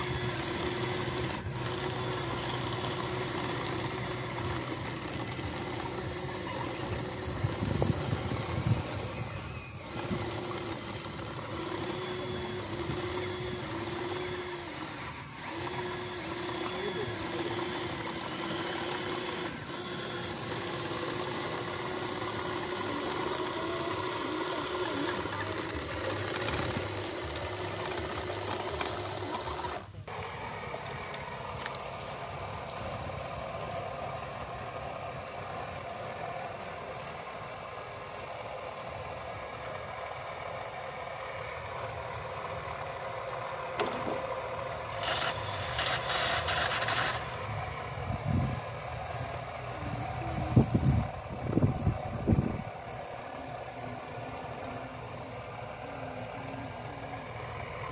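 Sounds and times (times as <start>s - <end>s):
rasping bursts: 0.0s - 36.1s, 36.9s - 57.9s
toy bulldozer motors whirring: 0.0s - 57.9s.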